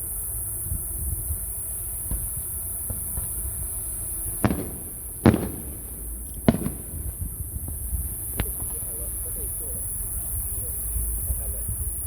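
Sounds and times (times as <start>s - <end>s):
low background rumble: 0.0s - 12.0s
fireworks bangs with rumbling echo: 0.6s - 12.0s.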